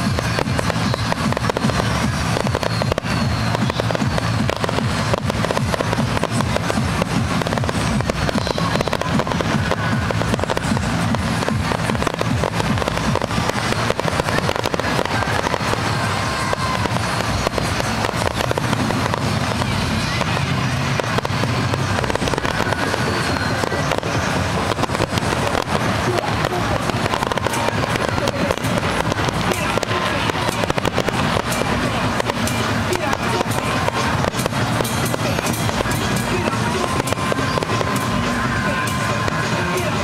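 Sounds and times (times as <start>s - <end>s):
fireworks bursts and crackling: 0.0s - 40.0s.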